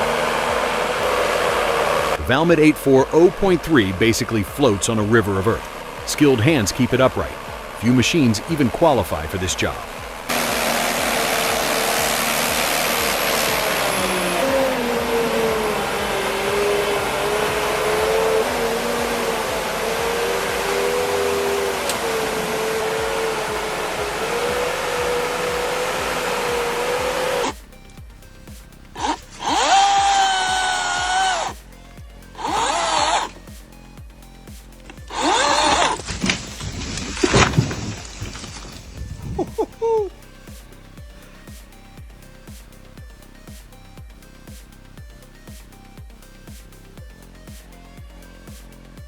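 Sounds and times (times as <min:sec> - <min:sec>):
heavy machine engine whining: 0:00.0 - 0:31.6, 0:32.3 - 0:33.5, 0:34.8 - 0:41.9
chainsaw revving: 0:00.0 - 0:33.8, 0:34.5 - 0:41.9
music beat: 0:00.0 - 0:49.0.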